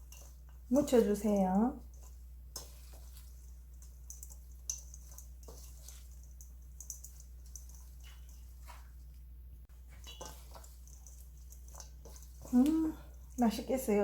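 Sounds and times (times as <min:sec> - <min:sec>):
soft wet rustles: 0:00.0 - 0:14.0.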